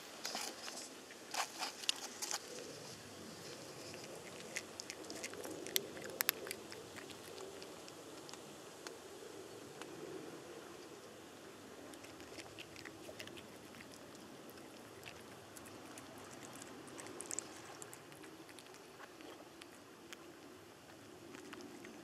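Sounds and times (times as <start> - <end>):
low background hum: 0.0 - 22.0
cats crunching dry food: 0.2 - 9.0, 11.8 - 22.0.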